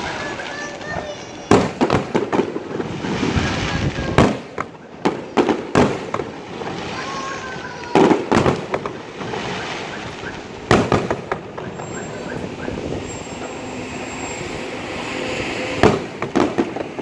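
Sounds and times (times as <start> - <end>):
fireworks bursting with sharp bangs: 0.0 - 17.0
fireworks crackling: 0.0 - 17.0.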